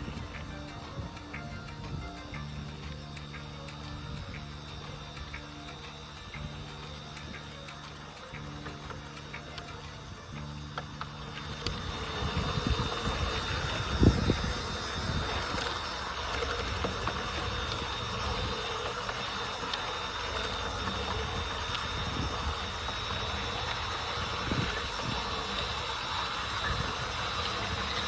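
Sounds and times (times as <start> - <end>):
small electric motor hum: 0.0 - 28.0
wheel noise on track: 0.0 - 28.0.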